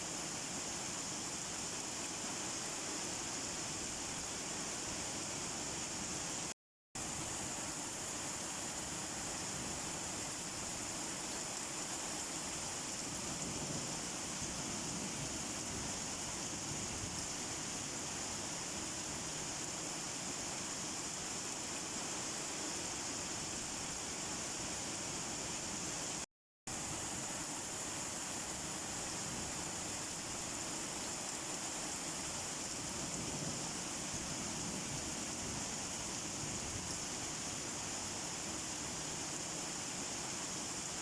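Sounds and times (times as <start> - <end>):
steady rain falling: 0.1 - 41.0.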